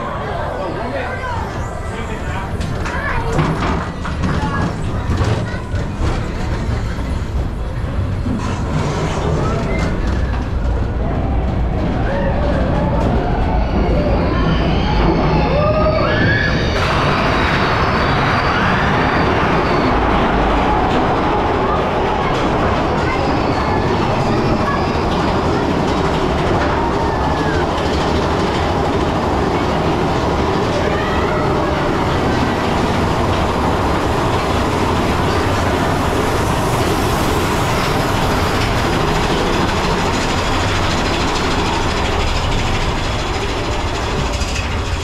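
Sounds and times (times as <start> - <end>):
roller coaster wheels rumbling on rails: 0.0 - 45.0.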